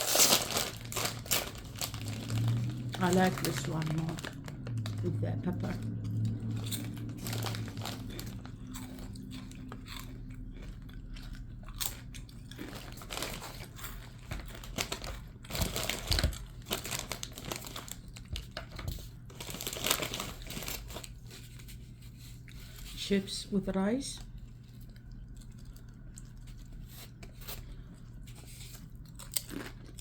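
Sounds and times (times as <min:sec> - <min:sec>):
person crunching potato chips: 0:00.0 - 0:22.9, 0:24.3 - 0:30.0.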